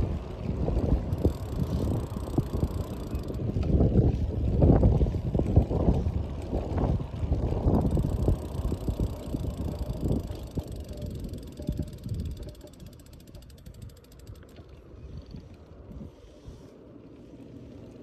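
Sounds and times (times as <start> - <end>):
bicycle freewheel ticking: 0.0 - 16.6
wind rumble on microphone: 0.0 - 16.8.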